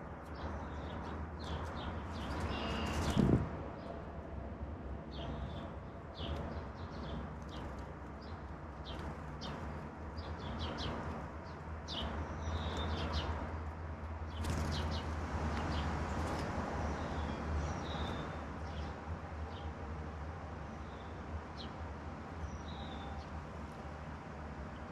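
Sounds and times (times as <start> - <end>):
songbirds chirping: 0.0 - 4.0, 5.0 - 24.9.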